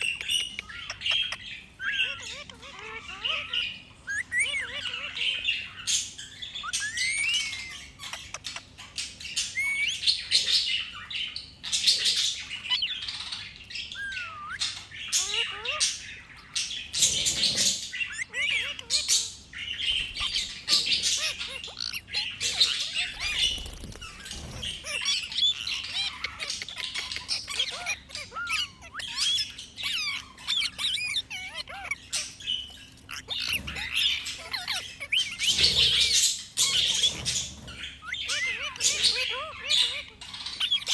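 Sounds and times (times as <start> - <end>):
parrot squawking and chirping: 0.0 - 40.9.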